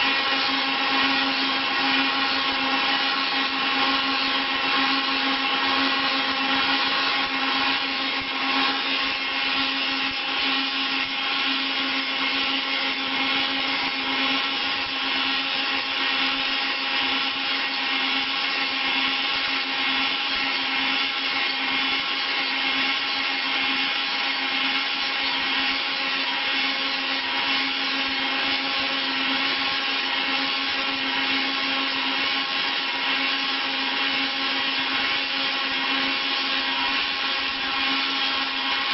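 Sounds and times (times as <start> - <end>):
milling machine motor whine: 0.0 - 38.9.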